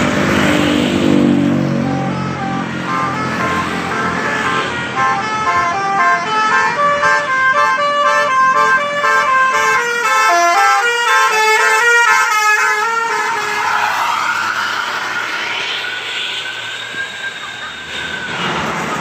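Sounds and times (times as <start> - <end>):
bus passing close: 0.0 - 19.0.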